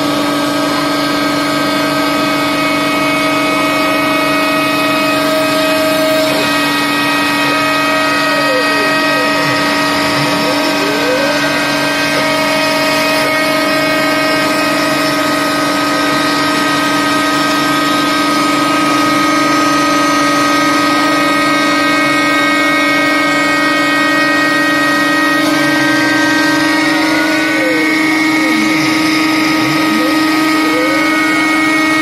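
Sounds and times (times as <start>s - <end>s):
machine motors whining: 0.0s - 32.0s.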